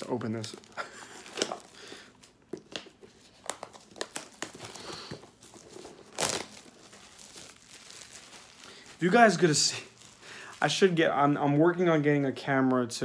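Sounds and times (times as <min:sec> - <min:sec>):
plastic shrink wrap crinkling: 0:00.0 - 0:13.0.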